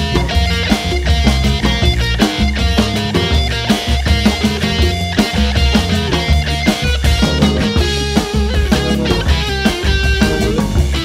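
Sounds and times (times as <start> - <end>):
electric guitar: 0.0 - 11.0
funk band playing: 0.0 - 11.0.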